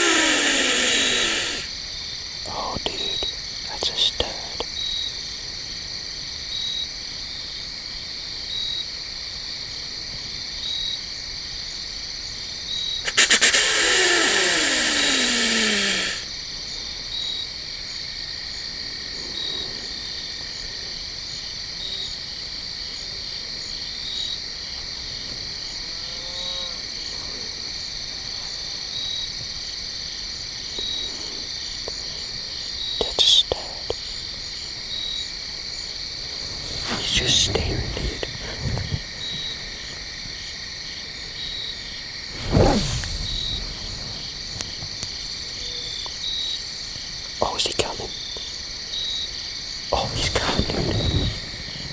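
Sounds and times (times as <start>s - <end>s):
cricket chirp: 0.0s - 51.9s
insect chorus trilling: 0.0s - 51.9s.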